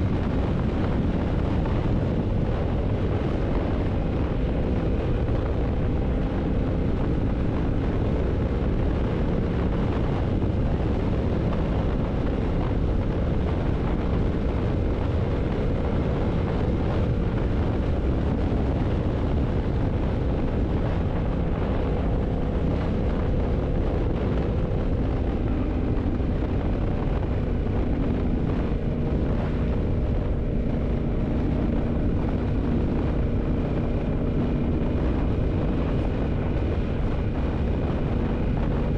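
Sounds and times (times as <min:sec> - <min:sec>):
motorcycle engine cruising: 0:00.0 - 0:38.9
wind on microphone: 0:00.0 - 0:38.9.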